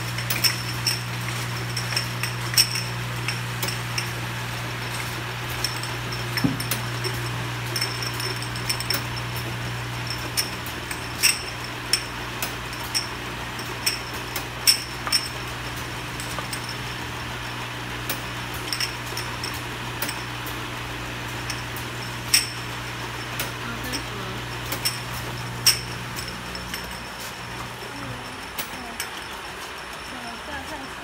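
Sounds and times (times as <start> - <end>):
glass bottles clinking: 0.0 - 20.4, 21.4 - 31.0
machine motor hum: 0.0 - 31.0.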